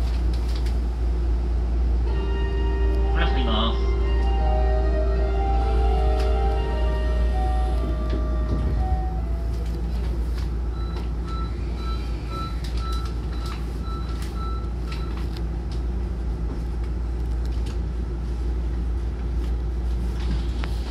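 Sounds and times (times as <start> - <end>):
train equipment hum: 0.0 - 20.9.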